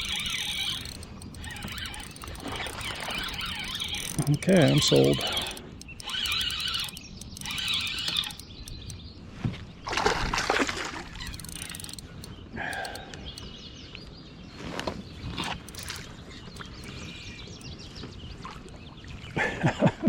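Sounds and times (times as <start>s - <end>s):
birds singing: 0.0s - 10.3s, 11.0s - 19.4s.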